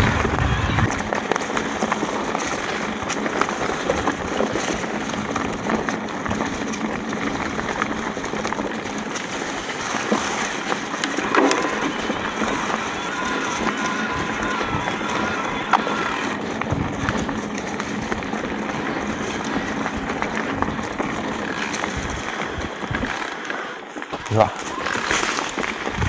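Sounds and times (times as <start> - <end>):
bike rattling: 0.0 - 26.0
tyres crunching on loose rock: 0.0 - 26.0.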